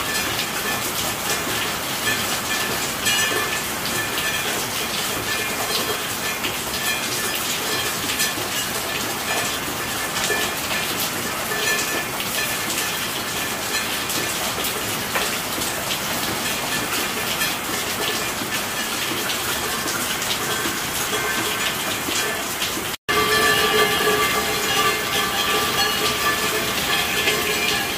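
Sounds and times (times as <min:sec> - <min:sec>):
steady rain hiss: 0:00.0 - 0:27.9.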